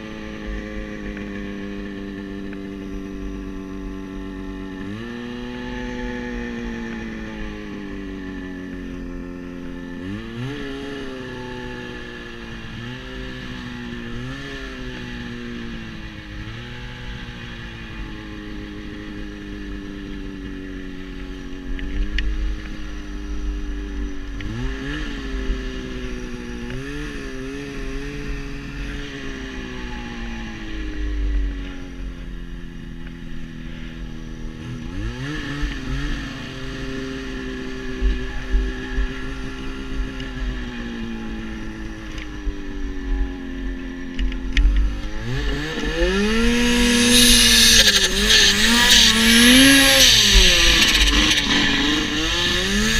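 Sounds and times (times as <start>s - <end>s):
snowmobile engine revving: 0.0s - 52.9s.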